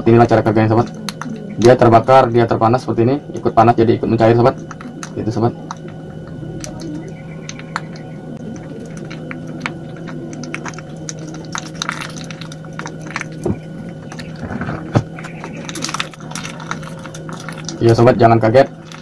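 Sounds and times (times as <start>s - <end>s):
gas burner low hum: 0.0s - 19.0s
melting glue crackling: 0.1s - 19.0s.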